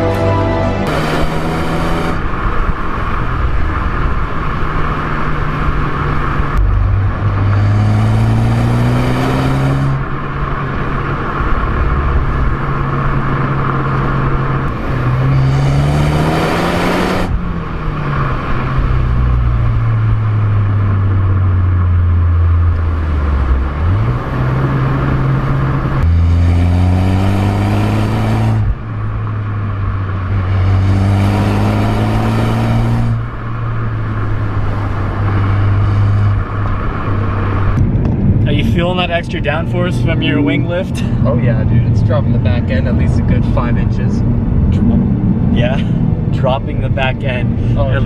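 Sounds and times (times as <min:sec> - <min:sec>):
car engine revving through gears: 0:00.8 - 0:48.0.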